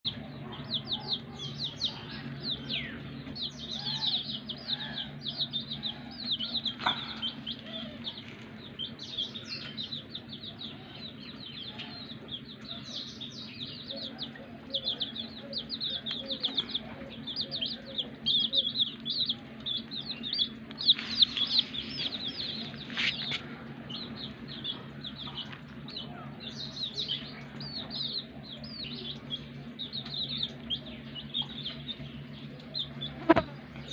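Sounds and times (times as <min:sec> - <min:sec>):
chicks peeping: 0:00.1 - 0:33.9
steady low hum: 0:00.1 - 0:33.9.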